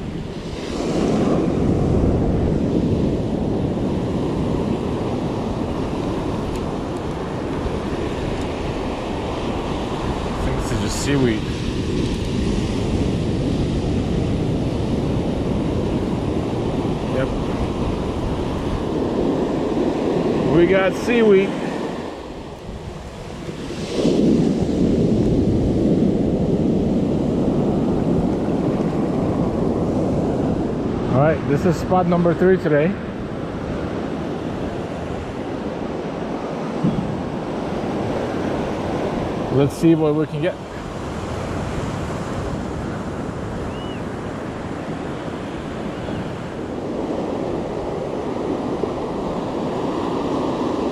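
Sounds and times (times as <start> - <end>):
ocean surf breaking: 0.0 - 50.9
wind on microphone: 0.0 - 50.9.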